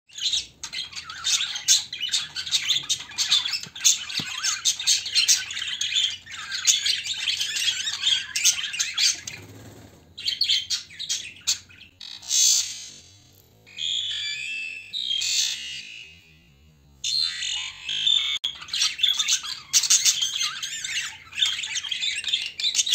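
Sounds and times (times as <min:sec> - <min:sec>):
budgerigars chattering: 0:00.1 - 0:13.0, 0:17.1 - 0:22.9.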